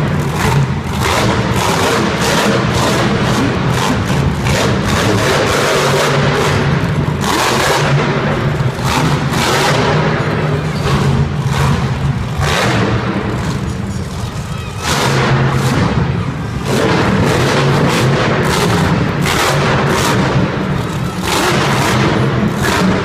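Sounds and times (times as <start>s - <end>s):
engine bangs: 0.0s - 23.0s
monster truck engine revving: 0.0s - 23.0s.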